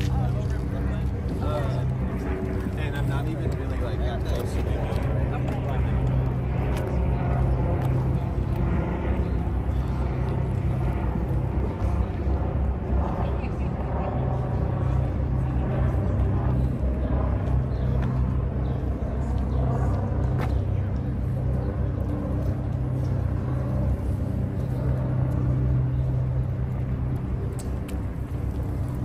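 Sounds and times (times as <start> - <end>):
faint voices: 0.0 - 29.0
low engine rumble: 0.0 - 29.0.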